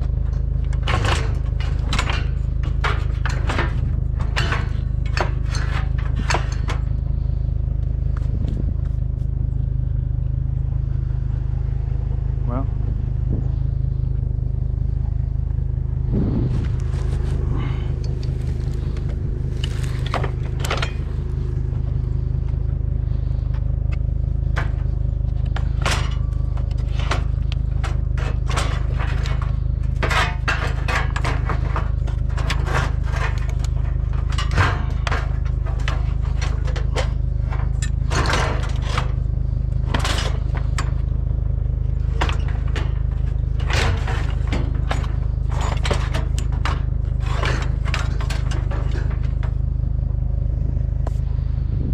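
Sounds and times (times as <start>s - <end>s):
scrap metal scraping and clanking: 0.0s - 12.0s, 13.3s - 51.9s
steady low rumble: 0.0s - 51.9s.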